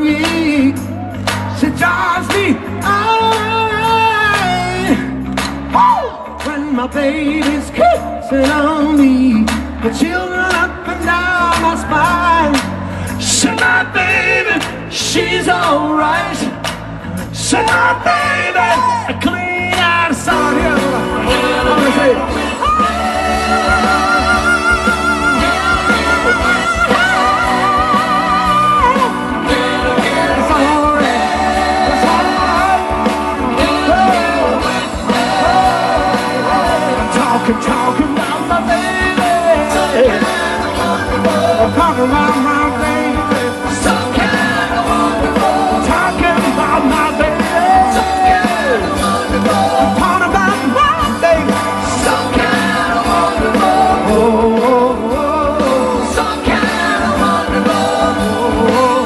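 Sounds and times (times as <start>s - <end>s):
drums steady beat: 0.0s - 59.0s
live rock band playing: 0.0s - 59.0s
wordless vocals: 5.8s - 59.0s.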